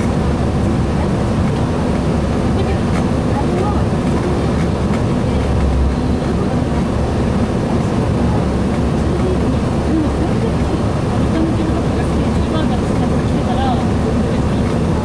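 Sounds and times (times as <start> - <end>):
diesel bus engine idling: 0.0 - 15.0.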